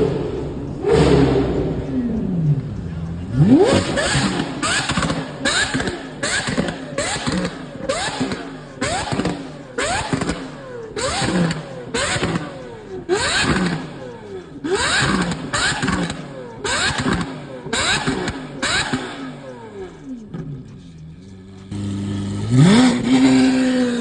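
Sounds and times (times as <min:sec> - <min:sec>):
sports car engine revving: 0:00.0 - 0:24.0.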